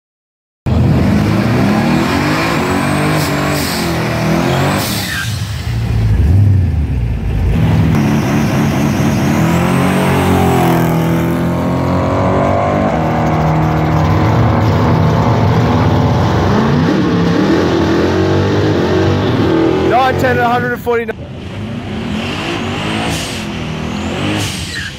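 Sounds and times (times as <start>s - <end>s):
car engine revving hard: 0.7s - 6.6s, 7.4s - 20.7s, 21.3s - 24.9s.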